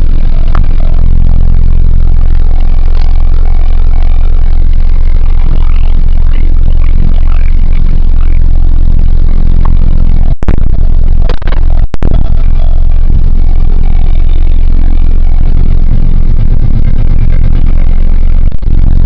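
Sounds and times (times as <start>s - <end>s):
pickup engine low drone: 0.0s - 19.0s.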